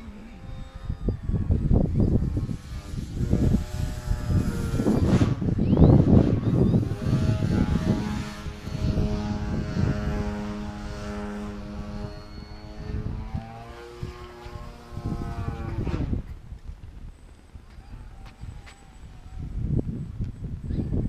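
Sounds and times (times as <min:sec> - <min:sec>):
model airplane engine droning: 0:00.0 - 0:21.0
wind buffeting microphone: 0:00.0 - 0:21.0.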